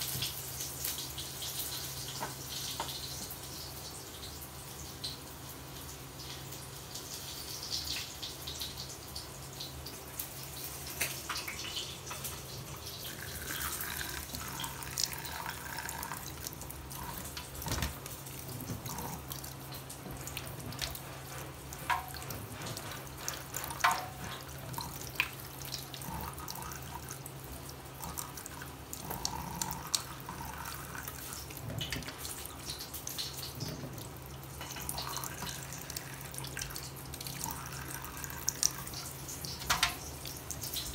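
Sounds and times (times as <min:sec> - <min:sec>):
water drips and splashes: 0:00.0 - 0:40.9
water trickling into metal sink: 0:00.0 - 0:40.9.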